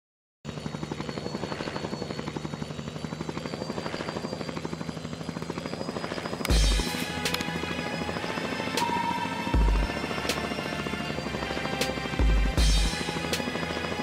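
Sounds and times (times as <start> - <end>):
helicopter rotor chopping: 0.5 - 14.0.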